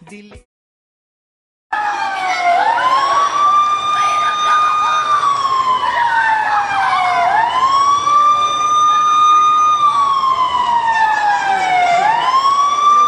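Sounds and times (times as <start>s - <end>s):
siren wailing: 1.7s - 13.0s.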